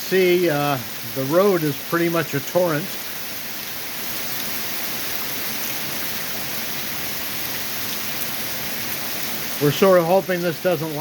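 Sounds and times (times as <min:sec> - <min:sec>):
steady rain: 0:00.0 - 0:11.0
water running down road: 0:00.0 - 0:11.0.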